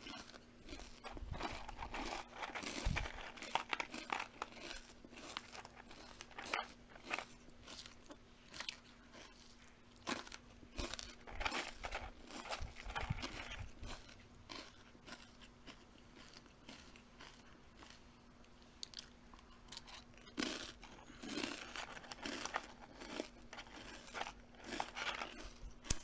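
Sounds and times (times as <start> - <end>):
crunching and chewing: 0.0 - 26.0.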